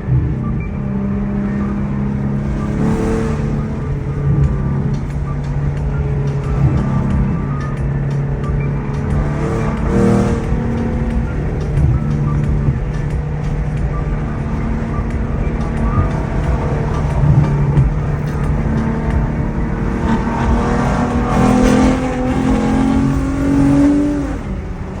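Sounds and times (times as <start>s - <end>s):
car exhaust revving: 0.0s - 25.0s.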